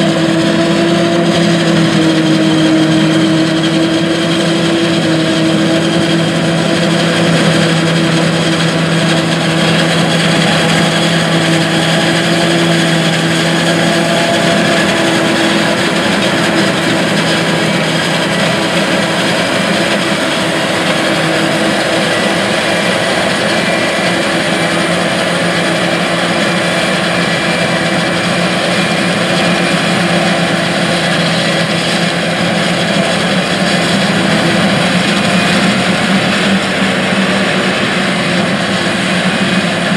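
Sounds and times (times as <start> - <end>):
forage harvester engine droning: 0.0 - 39.9
low hum: 0.1 - 39.9.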